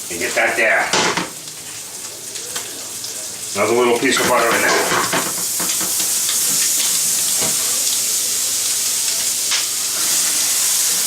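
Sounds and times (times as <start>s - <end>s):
butter sizzling in a hot pan: 0.0s - 11.0s.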